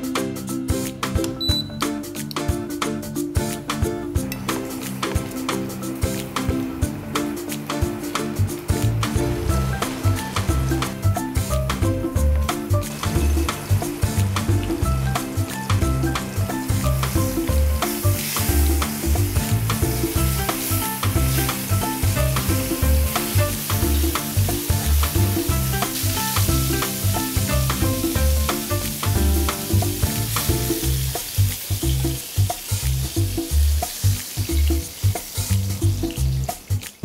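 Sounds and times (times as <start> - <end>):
background music with beat: 0.0 - 37.0
fish frying in oil: 4.2 - 37.0.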